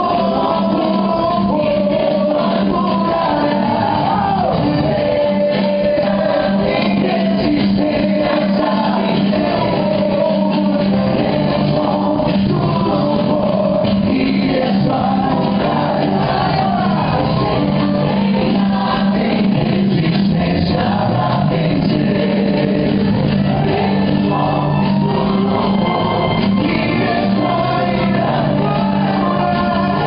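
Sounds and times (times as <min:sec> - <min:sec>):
worship song with singers and band: 0:00.0 - 0:30.0.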